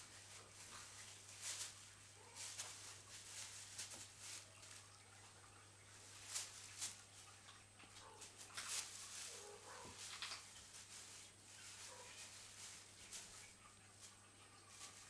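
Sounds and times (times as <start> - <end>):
rustling on plastic sheet: 0.0 - 15.0.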